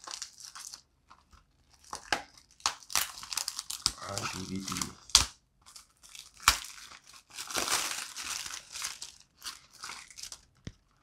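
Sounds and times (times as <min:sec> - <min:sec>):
plastic shrink wrap crinkling: 0:00.0 - 0:11.0.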